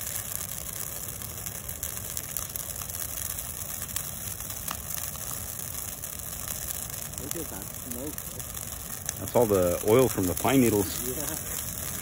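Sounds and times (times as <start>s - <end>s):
bonfire burning rush: 0.0s - 12.0s
faint fire crackles: 0.0s - 12.0s.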